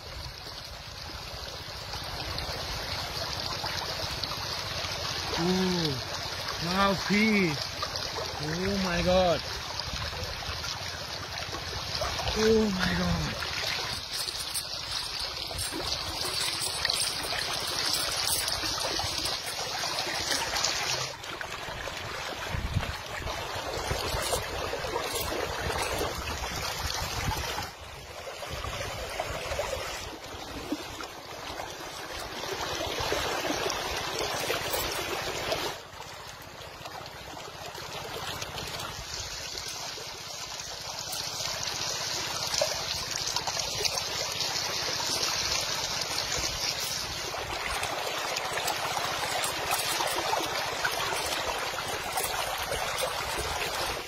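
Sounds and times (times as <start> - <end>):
river water running over rocks: 0.0 - 54.0.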